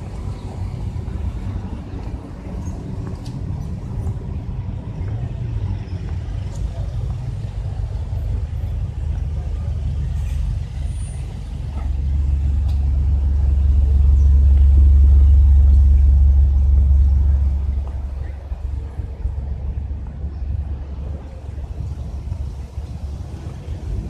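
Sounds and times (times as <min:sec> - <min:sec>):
cars and trucks idling: 0:00.0 - 0:24.0.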